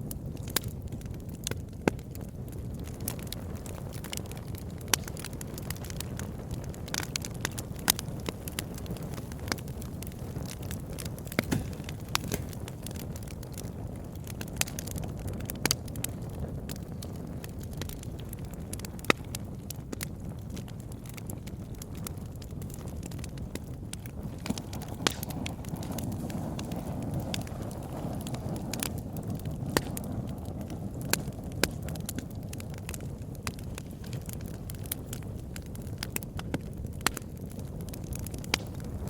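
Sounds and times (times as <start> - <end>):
burning wood crackling and popping: 0.0 - 39.0
campfire flames rushing: 0.0 - 39.0.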